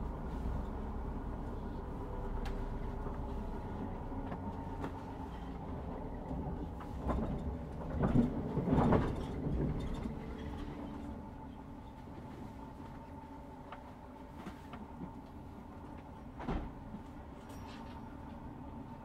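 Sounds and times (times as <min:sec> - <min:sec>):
train rumble and hum: 0:00.0 - 0:19.0.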